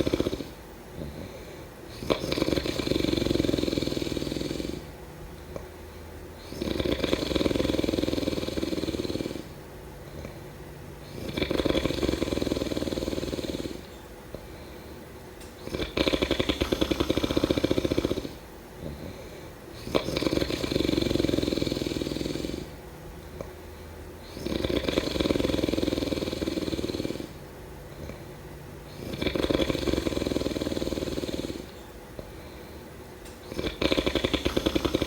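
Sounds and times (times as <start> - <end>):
person snoring: 0.0 - 4.9, 6.4 - 10.4, 11.0 - 14.9, 15.6 - 22.8, 24.2 - 27.4, 28.9 - 32.6, 33.4 - 35.0.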